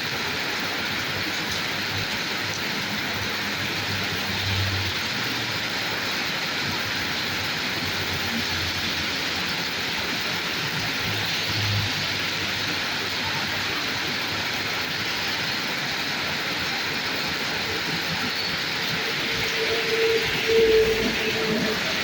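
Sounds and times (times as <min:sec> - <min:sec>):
rain falling on a road: 0:00.0 - 0:22.0
passing traffic rumble: 0:00.2 - 0:22.0.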